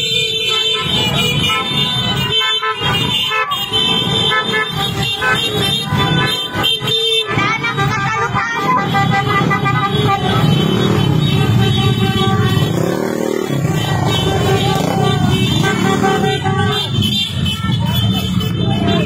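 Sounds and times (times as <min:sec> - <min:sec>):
motorcycle engines running: 0:00.0 - 0:19.0
vehicle horns honking: 0:00.0 - 0:19.0.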